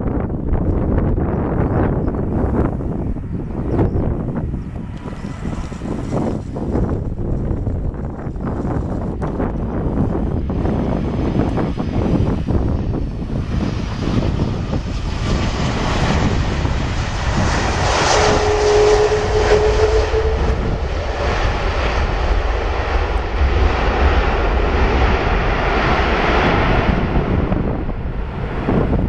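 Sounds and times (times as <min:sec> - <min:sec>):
jet engines reverse thrust: 0:01.9 - 0:29.0
steady whine: 0:02.4 - 0:29.0.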